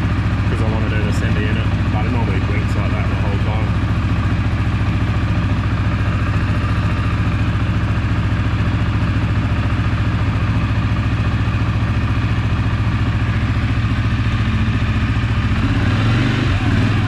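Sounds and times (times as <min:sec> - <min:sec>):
quad bike engine idling: 0:00.0 - 0:17.0.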